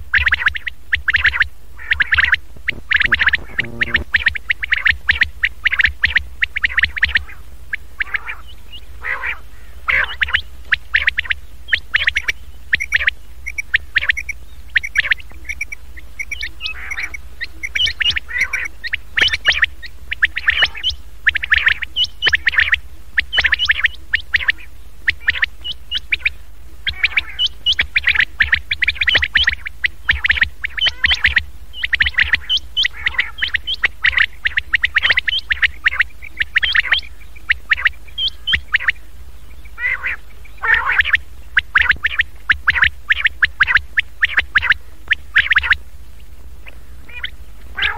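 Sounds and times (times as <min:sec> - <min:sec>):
quail calls: 0:00.0 - 0:45.8, 0:46.6 - 0:47.9
steady low hum: 0:00.0 - 0:47.9.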